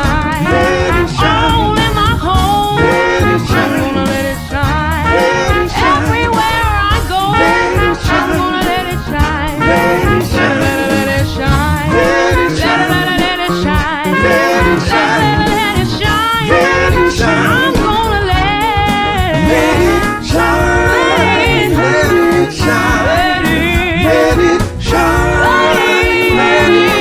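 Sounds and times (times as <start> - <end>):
band playing gospel music: 0.0 - 27.0
person singing: 0.0 - 27.0.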